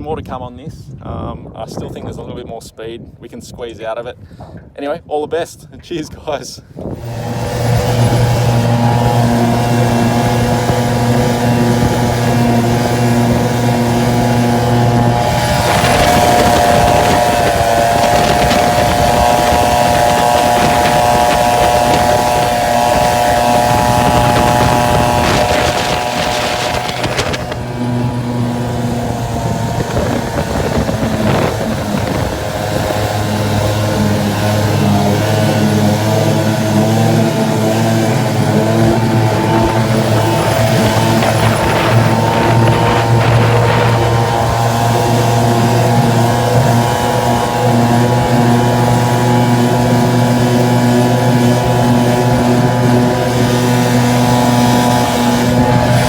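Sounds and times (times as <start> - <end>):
outboard motor running: 6.8 - 56.0
water rushing: 7.1 - 56.0
water splashing: 7.9 - 56.0.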